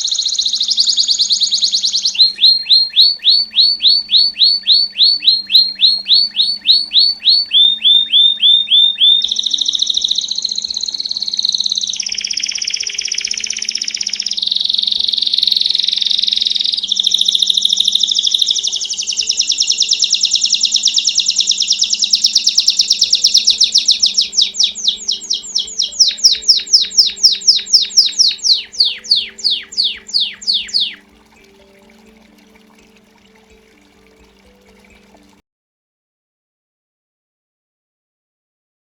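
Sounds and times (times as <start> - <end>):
canary singing trills: 0.0 - 35.4.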